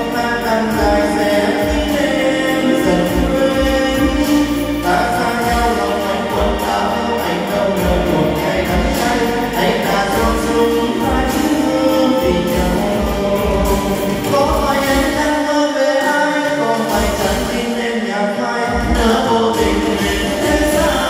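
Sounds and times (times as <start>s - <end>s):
karaoke backing track with bass beat: 0.0s - 21.0s
man singing into a microphone: 0.0s - 21.0s.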